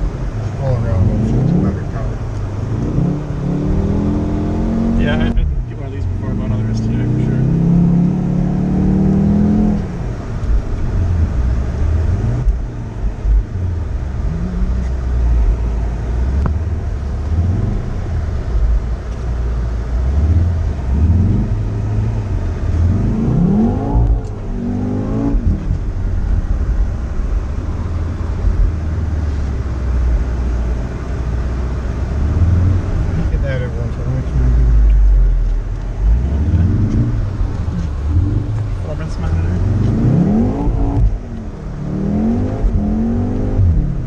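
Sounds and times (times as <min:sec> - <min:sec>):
car engine revving: 0:00.0 - 0:44.0
road noise: 0:00.0 - 0:44.0.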